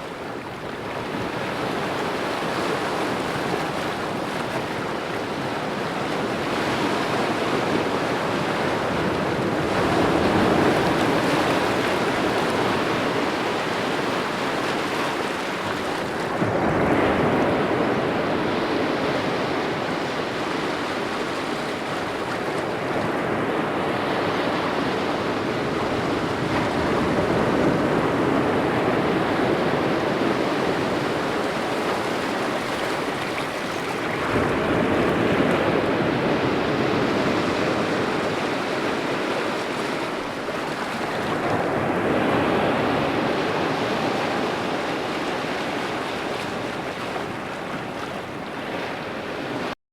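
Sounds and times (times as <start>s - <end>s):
ocean waves breaking on beach: 0.0s - 49.8s.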